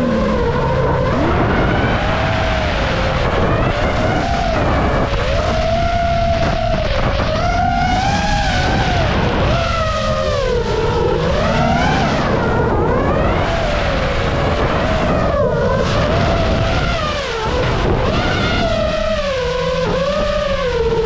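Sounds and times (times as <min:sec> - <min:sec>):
paramotor engine and propeller: 0:00.0 - 0:21.0
wind rumbling on microphone: 0:00.0 - 0:21.0.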